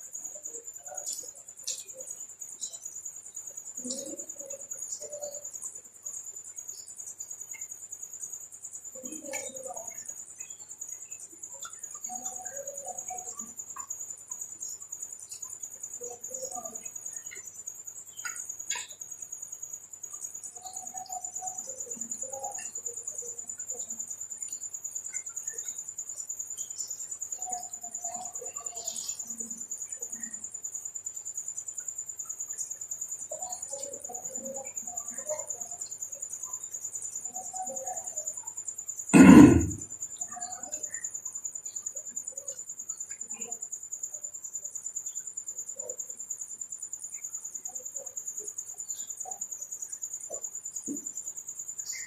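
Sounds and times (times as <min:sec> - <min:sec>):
crickets trilling: 0:00.0 - 0:52.0.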